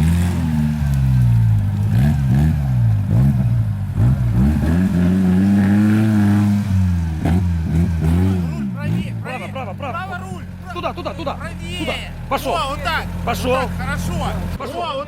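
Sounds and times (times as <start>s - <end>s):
car engine revving: 0.0s - 14.8s.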